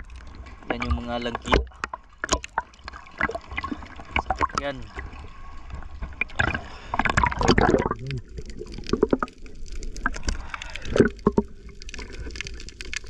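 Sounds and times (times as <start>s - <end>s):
underwater bubbling: 0.0s - 13.0s
underwater knocks and clicks: 0.0s - 13.0s
water splashing and sloshing: 0.0s - 13.0s.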